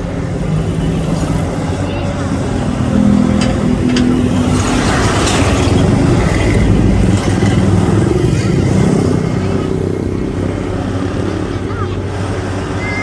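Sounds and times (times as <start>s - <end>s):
loud engine running: 0.0s - 13.0s.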